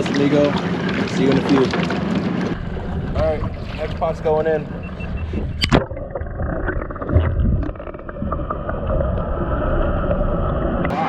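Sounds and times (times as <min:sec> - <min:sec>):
boat engine running: 0:00.0 - 0:09.8.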